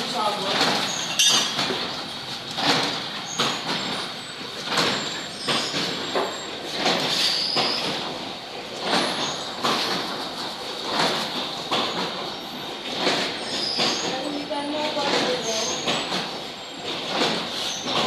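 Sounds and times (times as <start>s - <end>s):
machine clatter: 0.0s - 18.0s.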